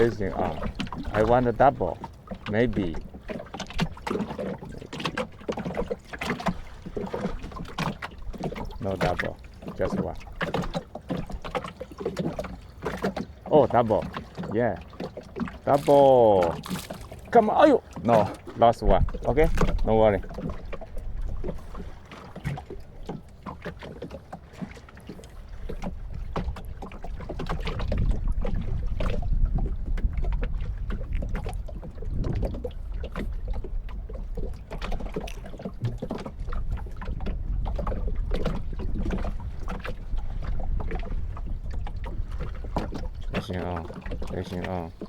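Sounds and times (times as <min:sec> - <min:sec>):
boat gear knocks and clicks: 0:00.0 - 0:45.0
wind and water rumble: 0:00.0 - 0:45.0.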